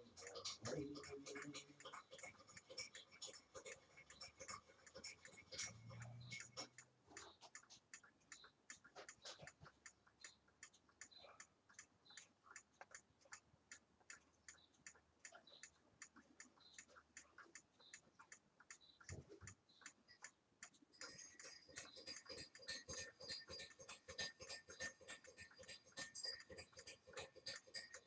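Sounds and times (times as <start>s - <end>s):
clock ticking: 0.0s - 28.0s.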